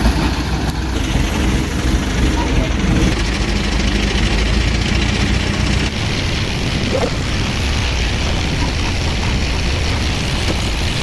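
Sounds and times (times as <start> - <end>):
heavy vehicle engine under load: 0.0 - 11.0
road and mechanical noise: 0.0 - 11.0.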